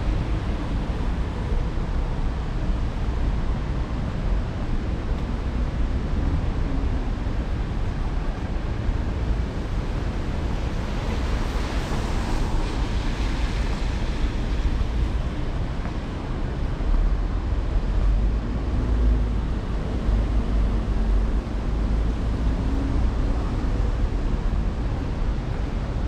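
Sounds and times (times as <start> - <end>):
traffic and tyre hiss: 0.0 - 26.0
wind rumble on microphone: 0.0 - 26.0.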